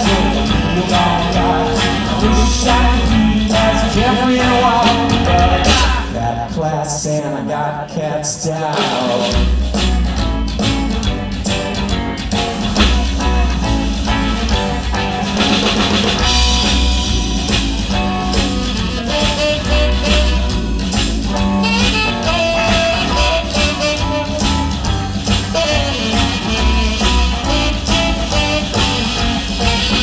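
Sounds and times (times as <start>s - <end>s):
lead guitar: 0.0s - 6.6s, 9.2s - 30.0s
live blues rock band: 0.0s - 30.0s.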